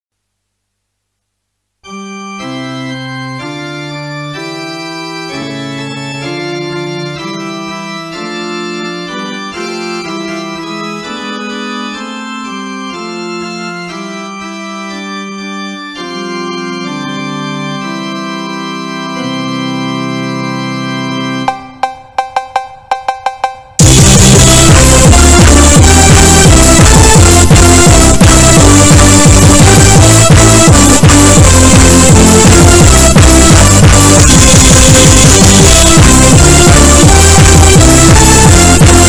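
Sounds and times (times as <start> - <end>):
organ music with sustained chords: 1.8 - 22.2, 23.7 - 39.0.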